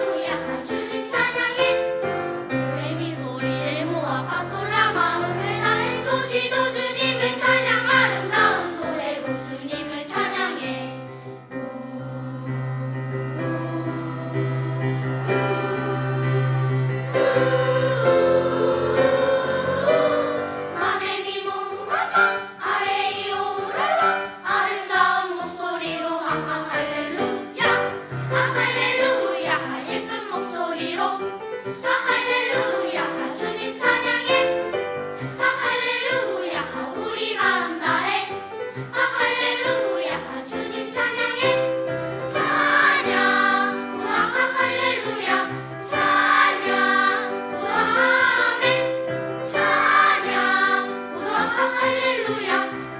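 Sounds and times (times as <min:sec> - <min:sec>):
choir singing: 0:00.0 - 0:52.9.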